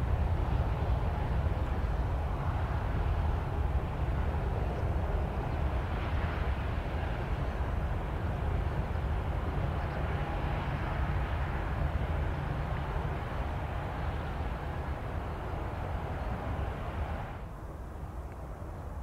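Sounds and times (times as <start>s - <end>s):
jet engines rushing and rumbling: 0.0s - 19.0s.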